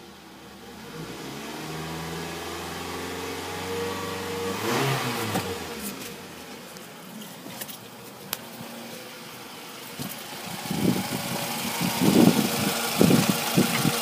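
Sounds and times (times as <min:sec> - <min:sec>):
car engine revving: 0:00.0 - 0:06.7, 0:08.5 - 0:14.0.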